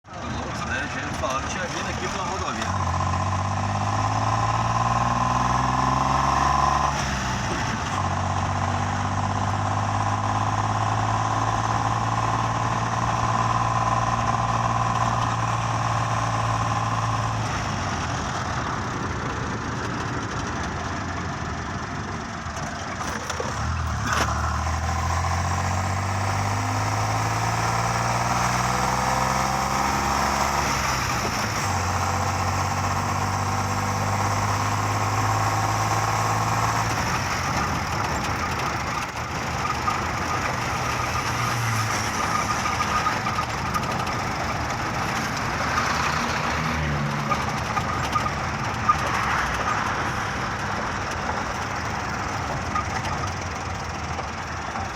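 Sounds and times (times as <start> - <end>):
vehicle engine shifting gears: 0.1 - 54.9.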